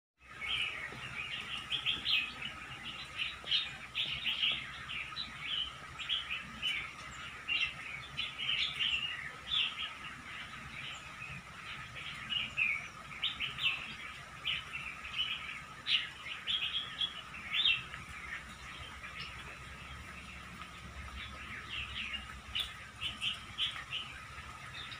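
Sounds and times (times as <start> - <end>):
songbirds chirping: 0.2 - 24.9.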